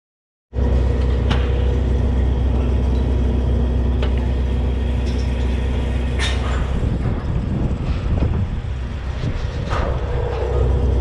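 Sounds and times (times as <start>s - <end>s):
drilling rig machinery drone: 0.5s - 11.0s.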